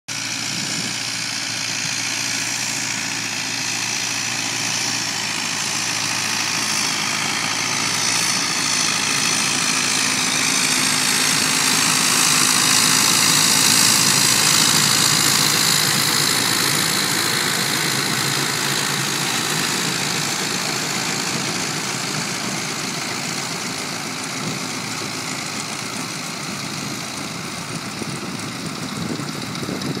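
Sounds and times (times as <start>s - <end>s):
tractor diesel engine running: 0.1s - 30.0s.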